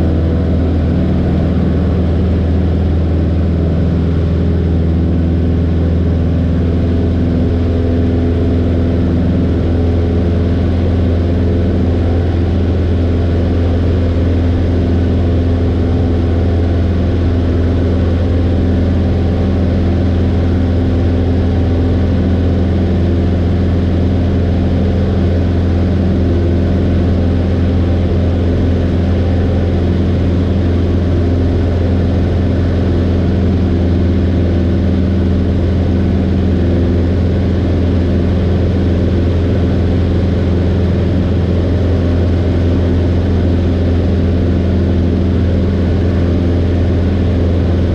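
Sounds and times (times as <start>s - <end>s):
propeller aircraft engine droning: 0.0s - 47.9s.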